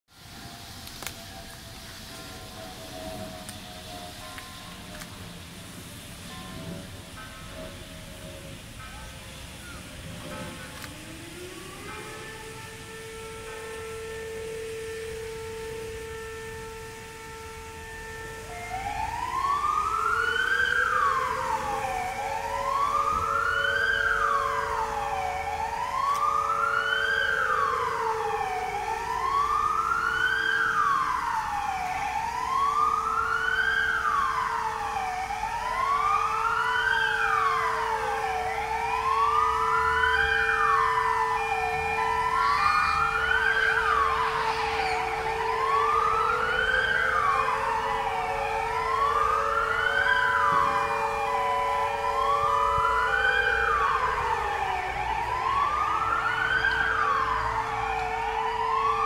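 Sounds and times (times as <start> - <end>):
alarm siren wailing: 0.2 - 59.0.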